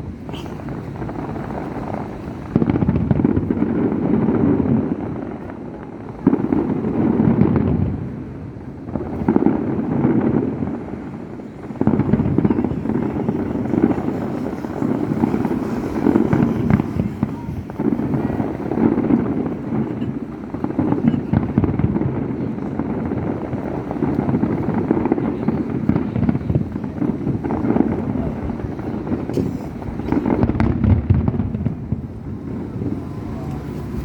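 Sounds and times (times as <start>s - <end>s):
firework shells booming: 0.0s - 34.0s
low rolling rumble: 0.0s - 34.0s.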